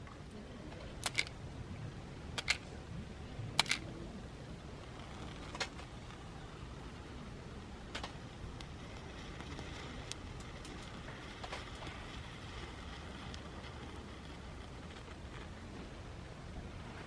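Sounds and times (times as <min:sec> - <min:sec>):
low outdoor hiss: 0:00.0 - 0:17.0.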